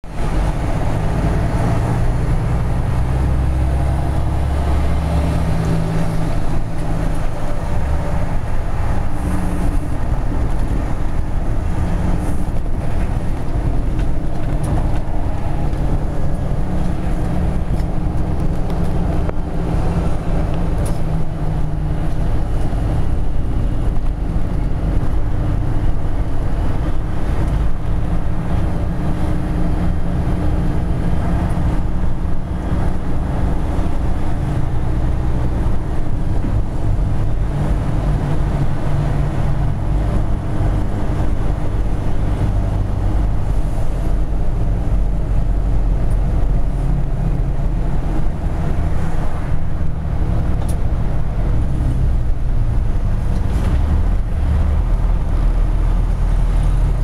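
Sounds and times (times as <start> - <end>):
truck engine droning: 0.0 - 57.0
tyre and road noise: 0.0 - 57.0.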